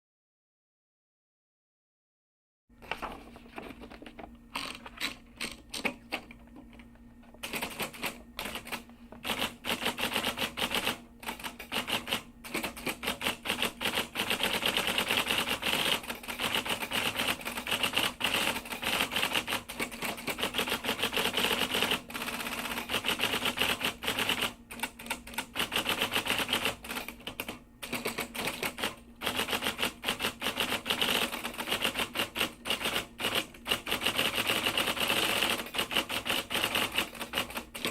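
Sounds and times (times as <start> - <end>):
typewriter keys clicking: 4.6 - 37.9.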